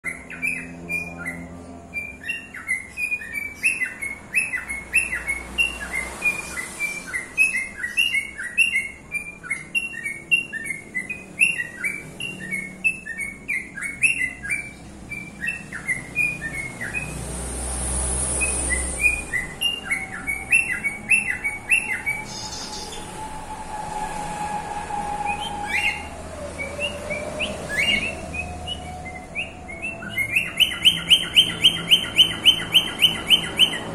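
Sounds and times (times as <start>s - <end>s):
cockatiel chirping whistles: 0.1s - 17.2s, 18.4s - 23.2s, 24.6s - 33.9s.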